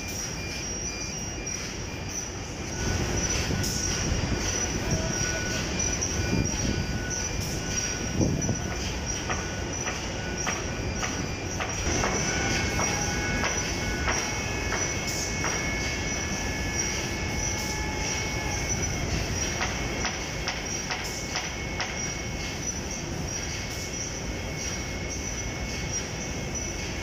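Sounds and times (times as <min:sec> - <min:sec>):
high steady whining tones: 0:00.0 - 0:27.0
industrial machinery din: 0:00.0 - 0:27.0.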